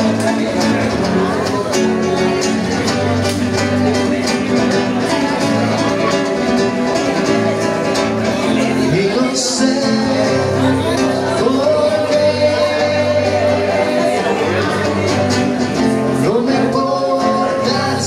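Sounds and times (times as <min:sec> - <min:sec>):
acoustic guitar strumming: 0:00.0 - 0:18.0
man singing: 0:00.0 - 0:18.0.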